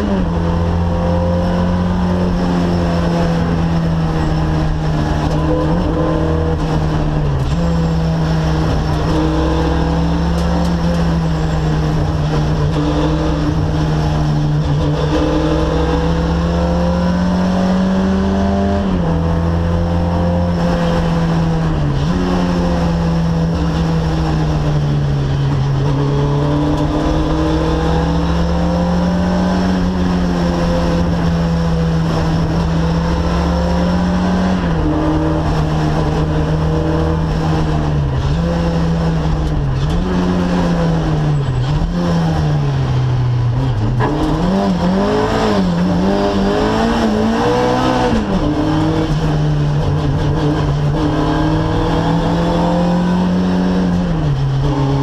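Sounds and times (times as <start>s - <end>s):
car engine revving through gears: 0.0s - 55.0s
road and wind noise: 0.0s - 55.0s.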